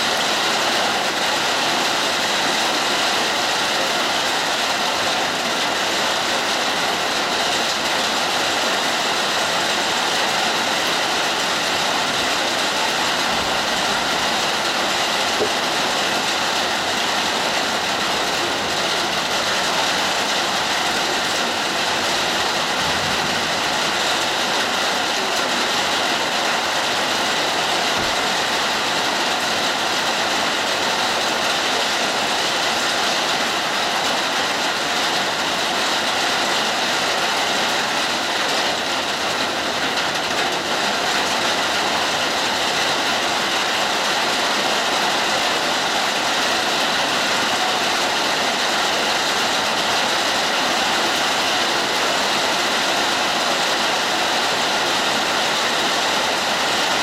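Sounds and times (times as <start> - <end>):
hard rain falling: 0.0 - 57.0.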